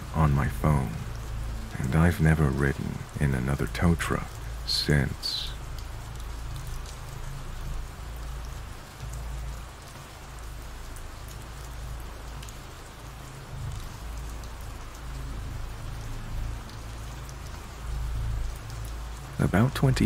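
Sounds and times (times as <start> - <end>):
faint ticks of raindrops: 0.0 - 20.0
rainfall hiss: 0.0 - 20.0.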